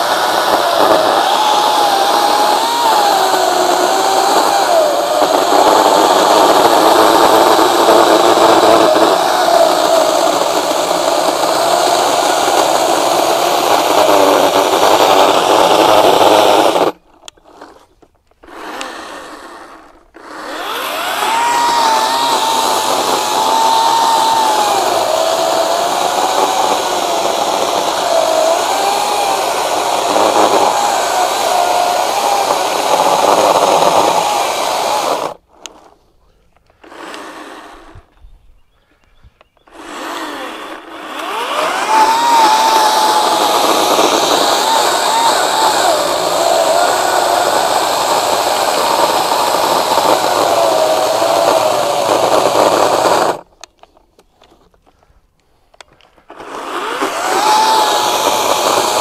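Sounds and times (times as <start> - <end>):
chainsaw cutting log: 0.0 - 36.0, 36.7 - 38.1, 39.6 - 53.8, 56.0 - 59.0.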